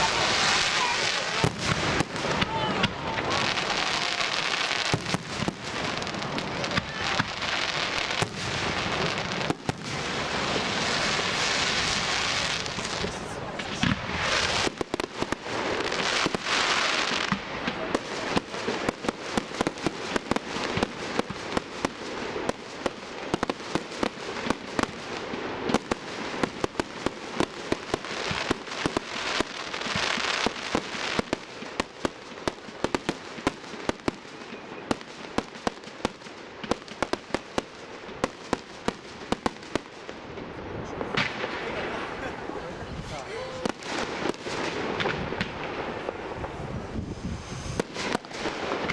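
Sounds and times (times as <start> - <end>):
fireworks crackling: 0.0 - 48.9
fireworks hissing rushes: 0.0 - 48.9
fireworks popping and banging: 0.0 - 48.9.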